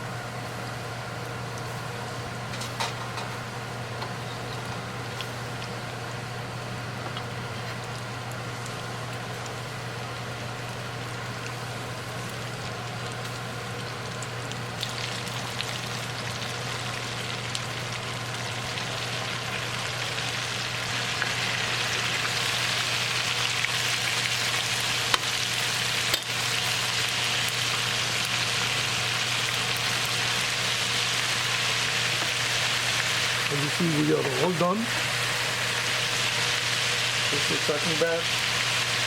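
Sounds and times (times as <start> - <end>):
chicken sizzling in deep fryer: 0.0 - 39.0.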